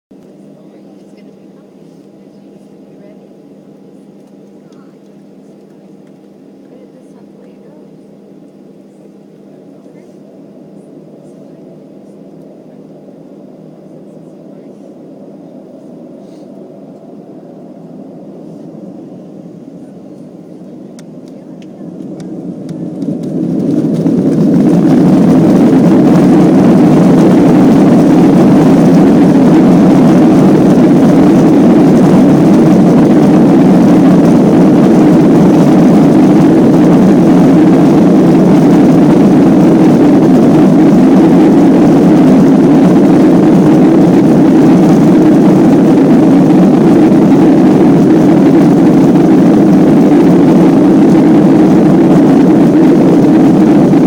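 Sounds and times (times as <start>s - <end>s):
jet engines at takeoff power: 0.1s - 54.0s.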